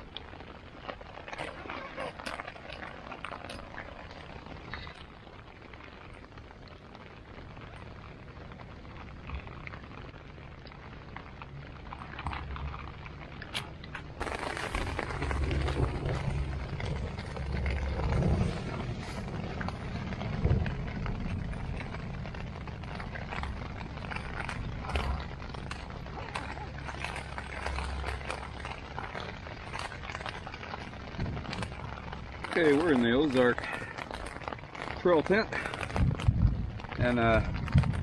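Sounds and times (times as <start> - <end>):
rain jacket and tent fabric rustling: 0.0 - 38.0.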